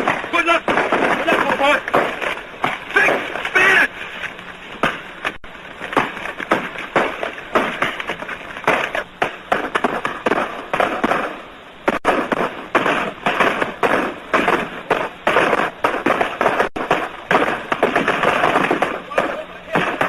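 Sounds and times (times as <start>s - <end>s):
rifle fire: 0.0s - 3.9s, 5.8s - 20.0s.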